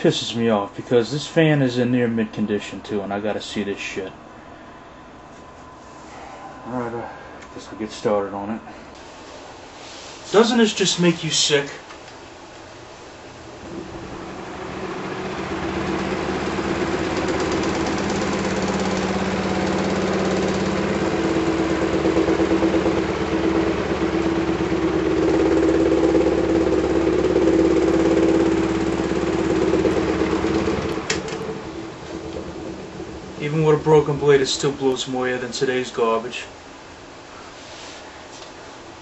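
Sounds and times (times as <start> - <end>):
electric fan rattling and humming: 0.0 - 39.0.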